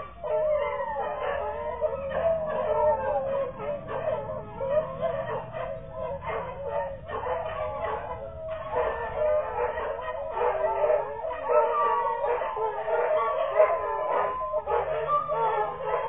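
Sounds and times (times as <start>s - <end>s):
puppies whining and howling: 0.0s - 16.0s.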